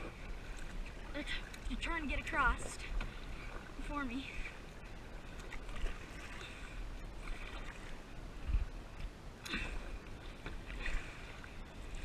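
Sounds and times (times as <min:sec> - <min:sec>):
kayak paddle splashing: 0:00.0 - 0:12.0.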